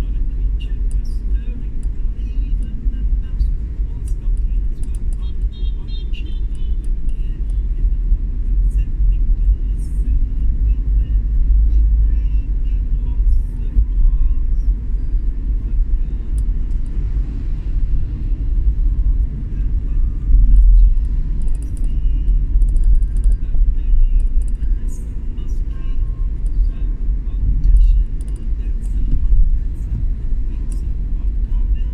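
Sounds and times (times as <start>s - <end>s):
vehicle engine and road noise: 0.0s - 31.9s.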